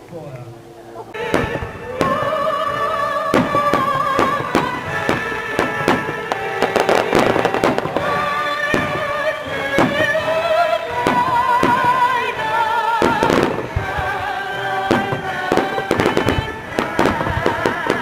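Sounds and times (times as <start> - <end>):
fireworks banging and crackling: 1.2 - 12.4, 13.0 - 18.0
orchestral music: 1.2 - 18.0.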